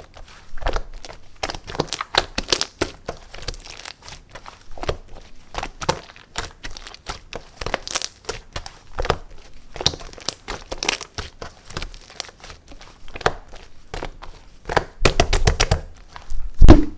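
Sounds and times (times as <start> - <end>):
slime crackling and popping: 0.6 - 16.9.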